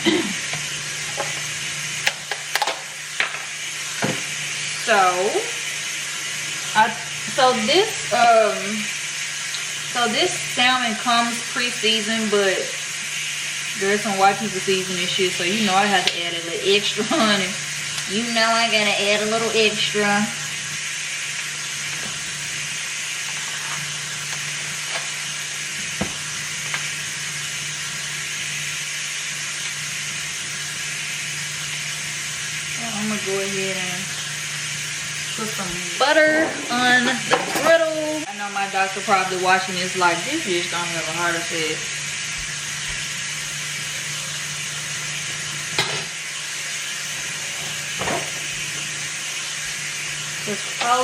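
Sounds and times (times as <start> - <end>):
vegetables sizzling in a pan: 0.0 - 51.0.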